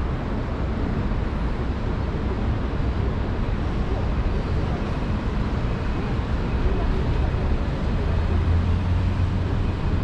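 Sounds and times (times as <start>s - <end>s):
road traffic deep rumble: 0.0s - 10.0s.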